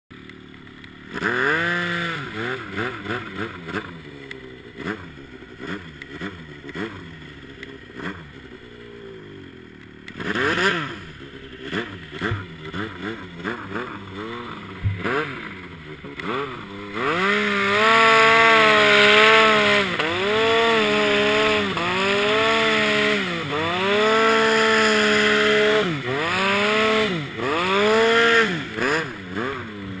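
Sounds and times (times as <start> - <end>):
snowmobile engine revving: 0.3 - 30.0.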